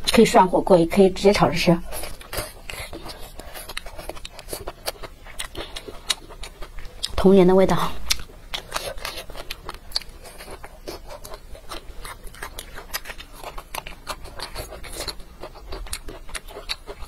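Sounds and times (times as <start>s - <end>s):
person chewing food: 1.8s - 17.0s.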